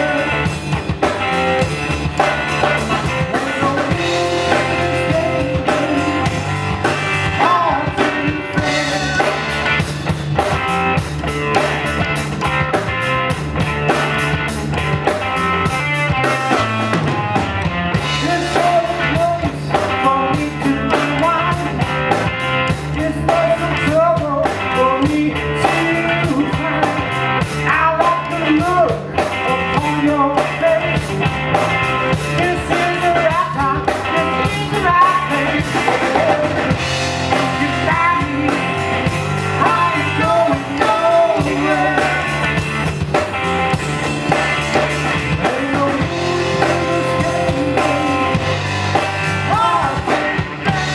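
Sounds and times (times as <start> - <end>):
bending melodic lead line: 0.0 - 21.9, 30.5 - 50.9
bass groove: 0.0 - 50.9
drum kit: 0.0 - 50.9.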